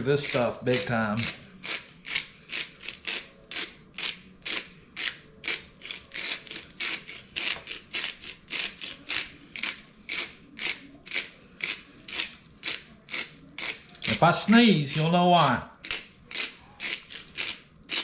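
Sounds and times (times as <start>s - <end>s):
pepper mill grinding: 0.0s - 18.0s.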